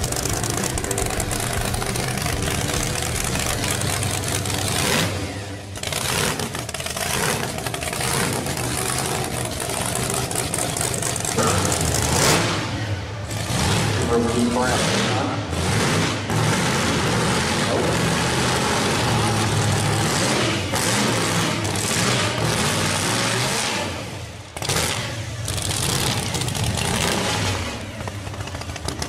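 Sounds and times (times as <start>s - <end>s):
loud engine revving: 0.0s - 29.0s.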